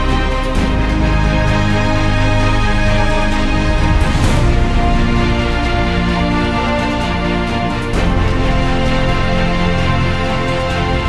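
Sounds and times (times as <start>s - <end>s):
soundtrack music with sustained chords: 0.0s - 11.0s.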